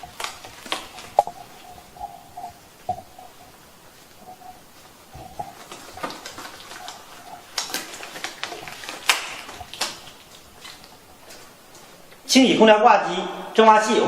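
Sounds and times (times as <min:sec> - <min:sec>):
hands rustling: 0:00.0 - 0:12.2.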